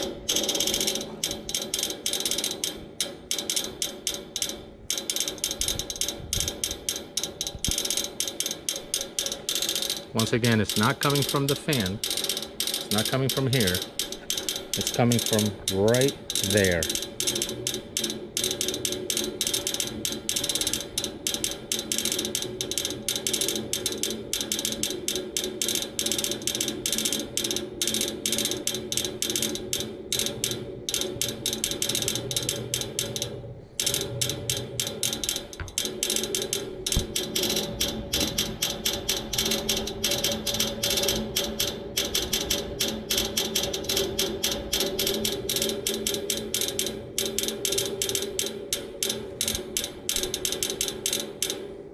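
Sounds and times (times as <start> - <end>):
air conditioner unit clicking rapidly: 0.0 - 51.9.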